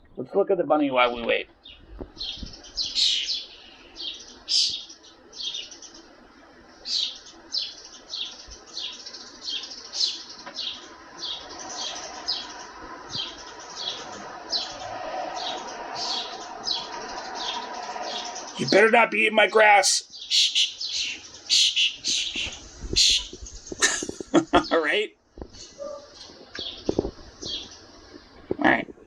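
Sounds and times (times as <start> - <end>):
young birds begging chirps: 1.0 - 28.9.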